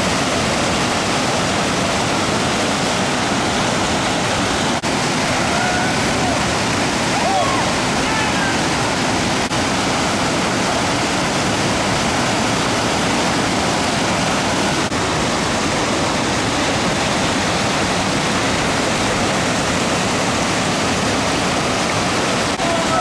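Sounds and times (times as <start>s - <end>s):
white water rushing: 0.0s - 23.0s.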